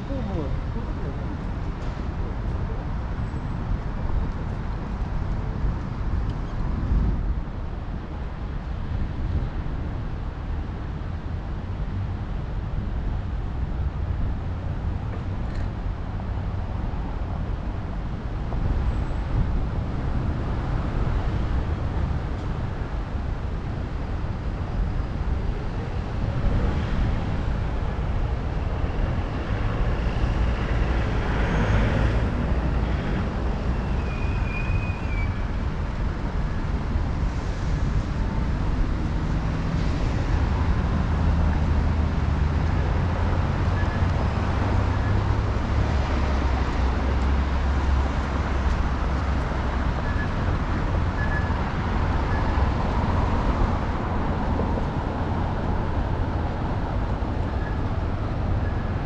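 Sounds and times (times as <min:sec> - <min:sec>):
passing cars and tyres: 0:00.0 - 0:59.0.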